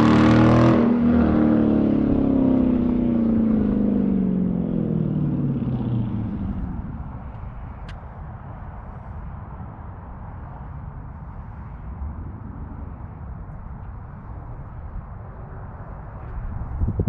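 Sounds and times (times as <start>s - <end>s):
car exhaust rumble: 0.0s - 17.0s.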